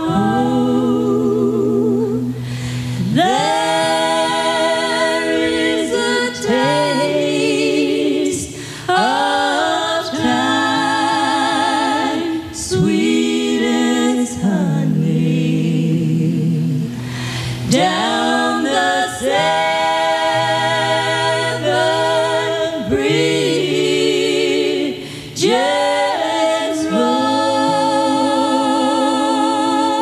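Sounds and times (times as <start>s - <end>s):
voices singing a cappella harmony: 0.0s - 30.0s.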